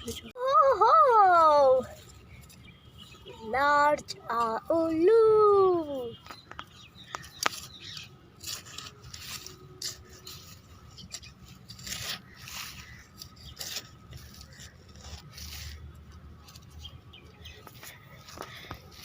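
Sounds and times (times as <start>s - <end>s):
soil scraping and rustling: 0.0s - 19.0s.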